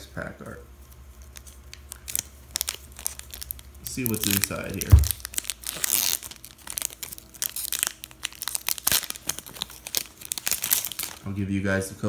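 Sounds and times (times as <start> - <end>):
foil pack tearing and crinkling: 1.2 - 11.3.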